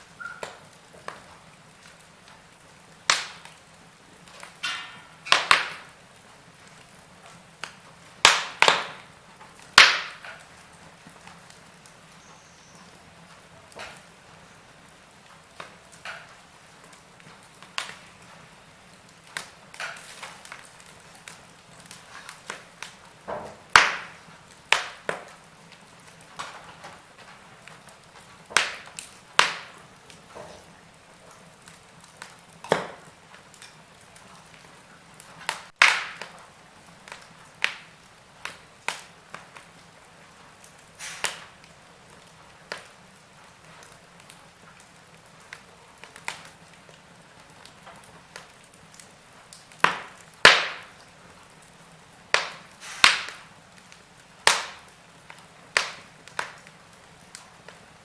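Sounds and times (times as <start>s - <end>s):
soft steady hiss: 0.0s - 58.0s
wood fire crackling and popping: 0.0s - 58.0s.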